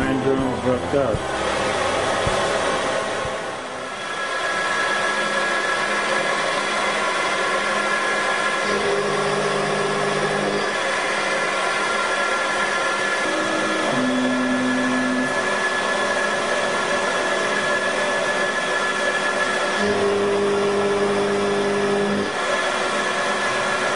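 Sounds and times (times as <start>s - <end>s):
milling machine whine and hiss: 0.0s - 23.9s.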